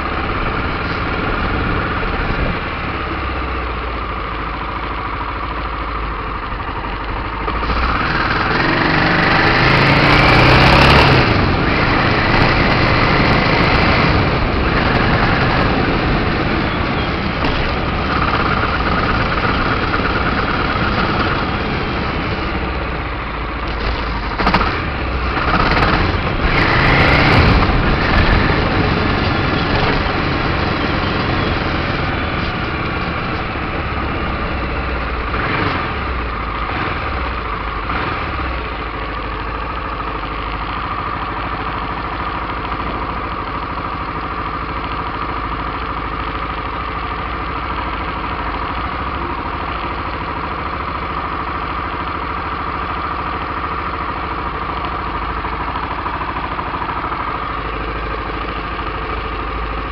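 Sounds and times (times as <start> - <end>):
motorcycle engine revving: 6.3 - 59.9.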